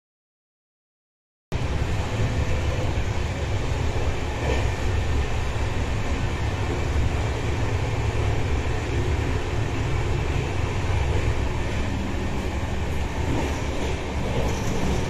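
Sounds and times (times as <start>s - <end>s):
train coach rumbling: 1.6s - 15.0s.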